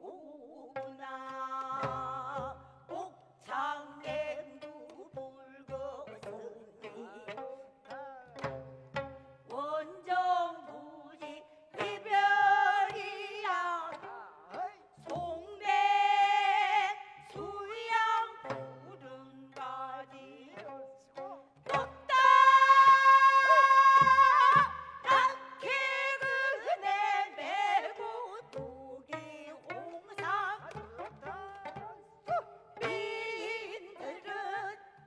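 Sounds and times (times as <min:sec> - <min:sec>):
women singing: 0:00.0 - 0:08.3, 0:09.5 - 0:35.0.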